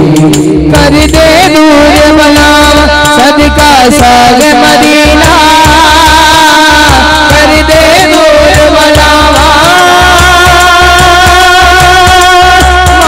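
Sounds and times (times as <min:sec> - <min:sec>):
low pulsing beat: 0:00.0 - 0:13.0
man singing with vibrato: 0:00.0 - 0:13.0.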